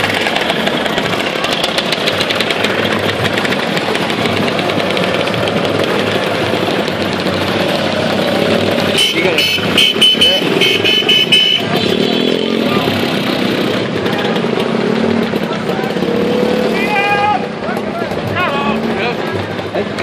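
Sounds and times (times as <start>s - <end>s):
motor scooters riding past: 0.0s - 20.0s.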